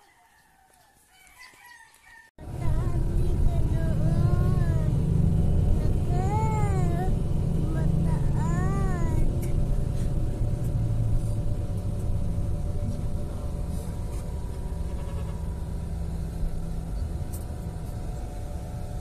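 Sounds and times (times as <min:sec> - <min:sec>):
road noise: 0:02.4 - 0:19.0
vehicle engine rumble: 0:02.4 - 0:19.0.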